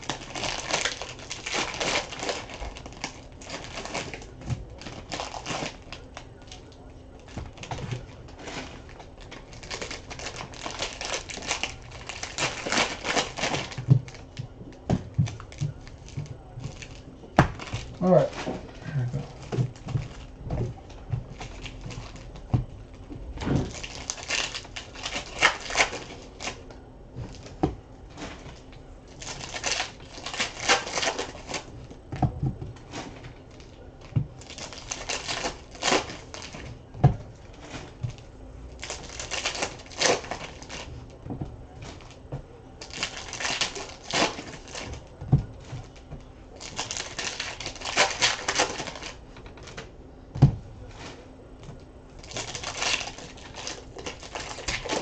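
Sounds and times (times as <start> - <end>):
plastic wrappers tearing and crinkling: 0.0 - 49.9, 52.2 - 55.0.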